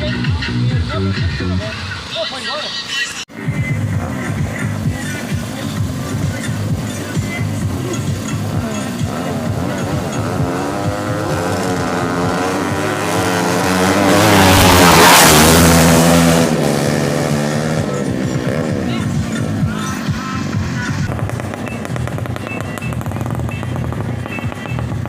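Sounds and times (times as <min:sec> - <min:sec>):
music: 0:00.0 - 0:13.9, 0:17.4 - 0:25.0
motorcycle accelerating hard: 0:03.8 - 0:25.0.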